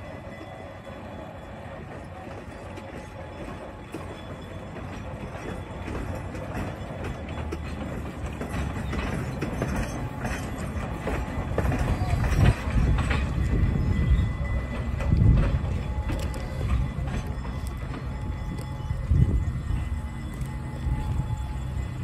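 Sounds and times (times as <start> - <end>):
train wheels clicking over rail joints: 0.0 - 22.0.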